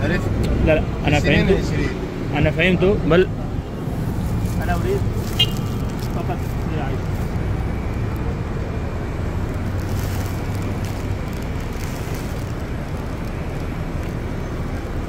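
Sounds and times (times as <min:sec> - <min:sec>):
car engines idling and passing: 0:00.0 - 0:15.0.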